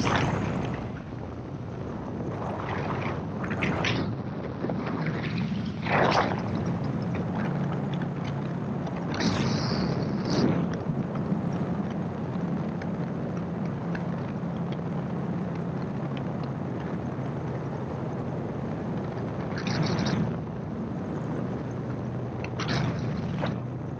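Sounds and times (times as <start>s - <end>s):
wind noise: 0.0s - 23.9s.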